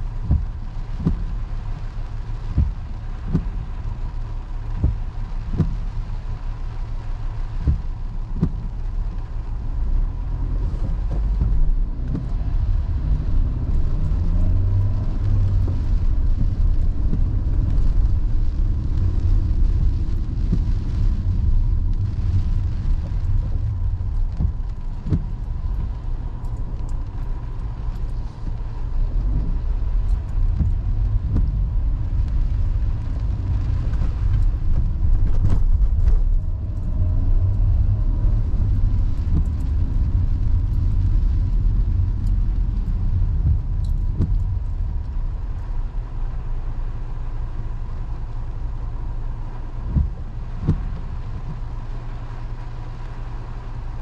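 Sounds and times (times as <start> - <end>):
car engine and tyre rumble: 0.0 - 54.0
windshield wipers sweeping: 0.0 - 54.0.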